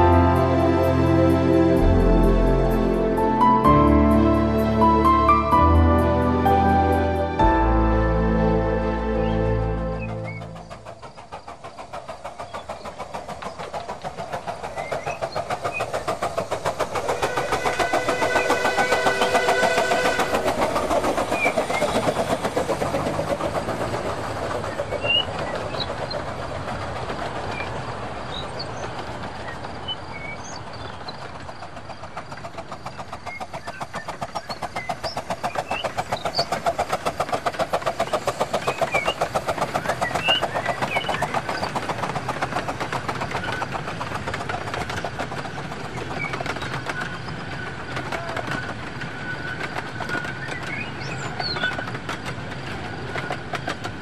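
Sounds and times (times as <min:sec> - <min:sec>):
model train wheels rattling: 0:10.3 - 0:54.0.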